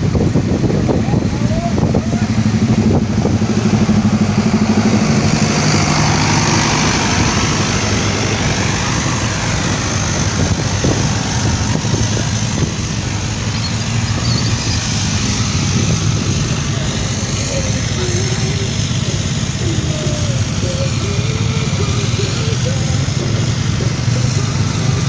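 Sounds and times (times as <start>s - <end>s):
road noise: 0.0s - 25.0s
vehicle engine running: 0.0s - 25.0s.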